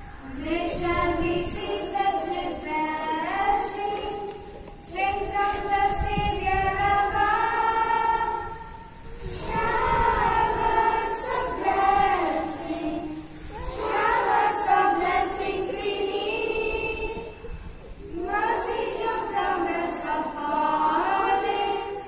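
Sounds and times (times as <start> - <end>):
girls singing into microphone: 0.0 - 22.0.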